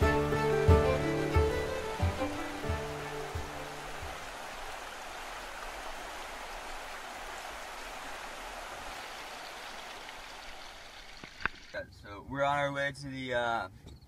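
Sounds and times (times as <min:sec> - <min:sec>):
river water rushing: 0:00.0 - 0:11.8.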